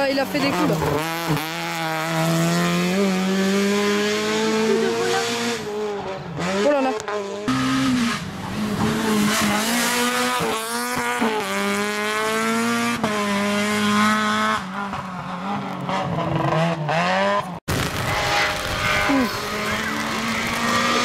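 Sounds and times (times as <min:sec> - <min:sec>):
car engine revving hard: 0:00.4 - 0:21.0.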